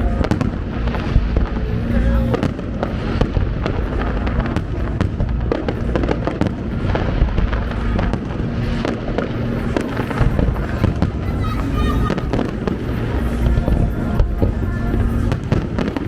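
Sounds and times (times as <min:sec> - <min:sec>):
faint music: 0:00.0 - 0:16.0
firework bursts and crackling pops: 0:00.0 - 0:16.0.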